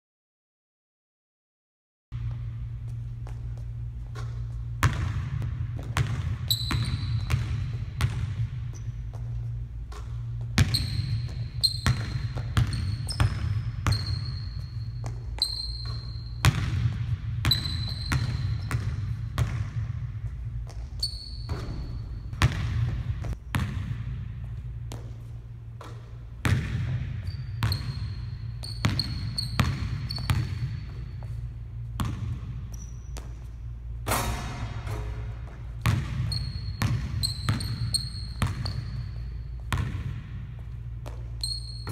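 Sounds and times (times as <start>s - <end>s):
basketball bouncing on hardwood floor: 2.2s - 25.2s, 25.8s - 31.4s, 32.0s - 33.5s, 34.3s - 41.9s
steady low hum: 2.2s - 41.9s.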